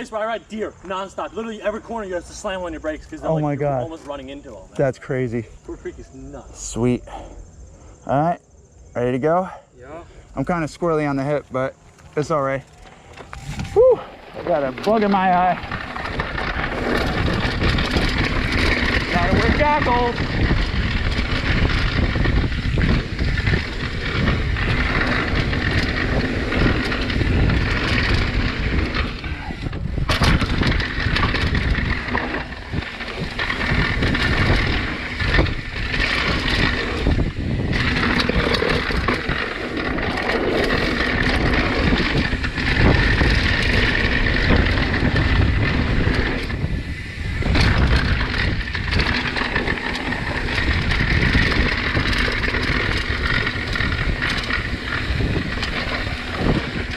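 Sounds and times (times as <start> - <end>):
wind buffeting microphone: 8.6 - 56.9
bike knocking and rattling: 10.2 - 56.9
tyres rumbling on dirt and rock: 10.4 - 56.9.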